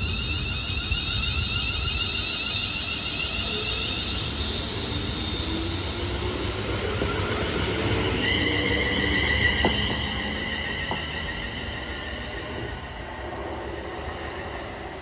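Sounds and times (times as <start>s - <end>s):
high wavering electrical whines: 0.0s - 15.0s
train low rumble: 0.0s - 15.0s.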